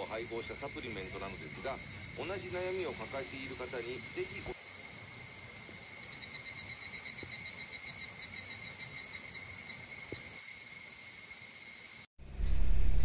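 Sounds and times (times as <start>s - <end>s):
insects chirping trill: 0.0s - 13.0s.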